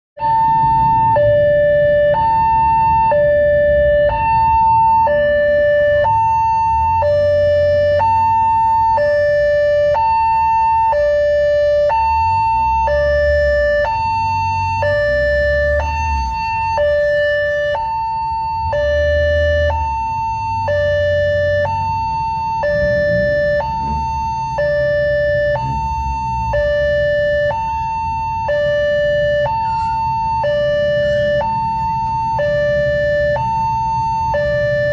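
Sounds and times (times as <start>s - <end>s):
road traffic rumbling: 0.2s - 34.9s
two-tone crossing alarm: 0.2s - 34.9s.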